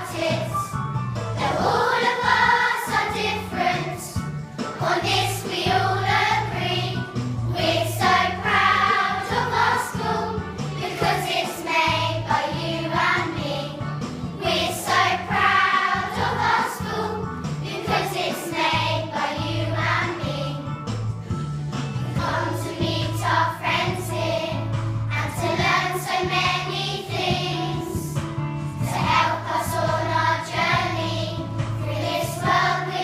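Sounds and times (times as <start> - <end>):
children singing: 0.0 - 0.7, 1.4 - 4.2, 4.8 - 7.0, 7.6 - 13.8, 14.4 - 20.6, 22.2 - 28.0, 28.9 - 33.0
instrumental accompaniment with bass: 0.0 - 33.0.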